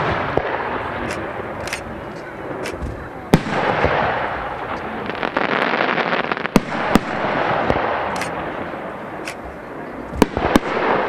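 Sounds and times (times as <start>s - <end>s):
continuous firework hiss: 0.0s - 11.0s.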